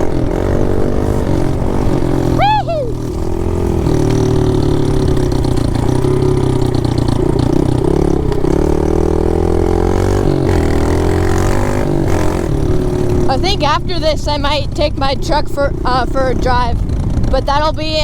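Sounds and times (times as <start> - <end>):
pit bike engine running: 0.0 - 18.0.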